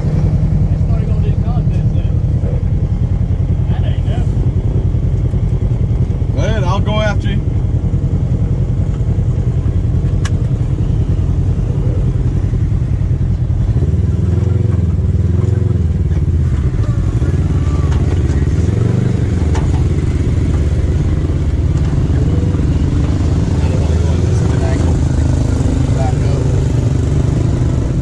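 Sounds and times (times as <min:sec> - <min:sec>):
vehicle engine running at low revs: 0:00.0 - 0:28.0.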